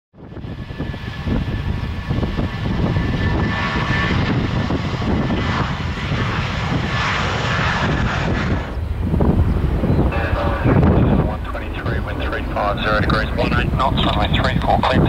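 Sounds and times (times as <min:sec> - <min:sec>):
jet engine rumble: 0:00.2 - 0:15.0.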